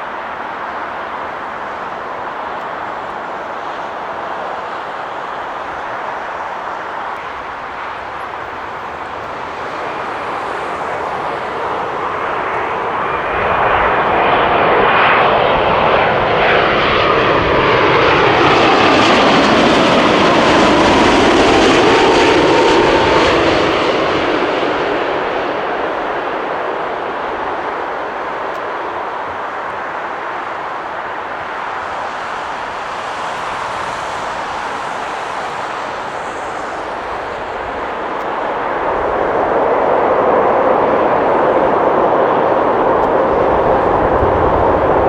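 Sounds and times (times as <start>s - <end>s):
jet airliner passing by: 0.0s - 45.0s.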